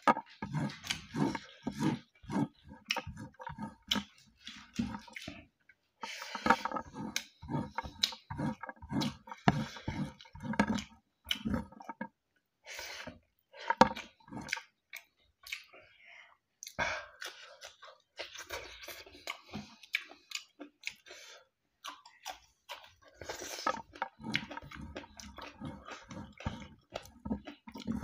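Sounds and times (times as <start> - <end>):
wet chewing and lip smacking: 0.0 - 12.1, 13.7 - 16.0, 16.6 - 28.0.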